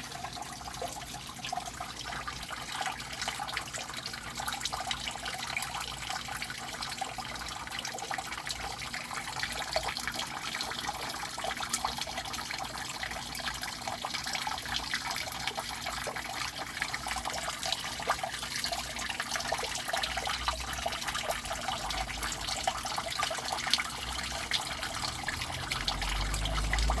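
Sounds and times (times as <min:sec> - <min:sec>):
water splashing into a drain: 0:00.0 - 0:27.0.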